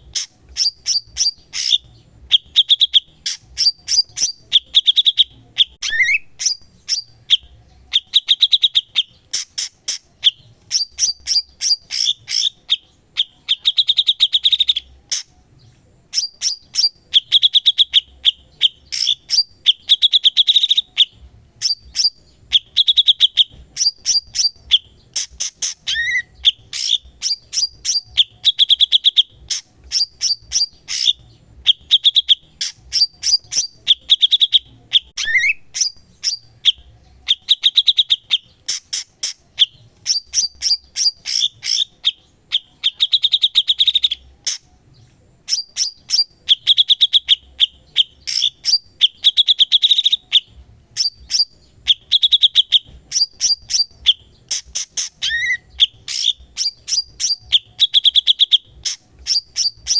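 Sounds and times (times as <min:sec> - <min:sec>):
bird singing trilled notes: 0:00.0 - 0:59.9.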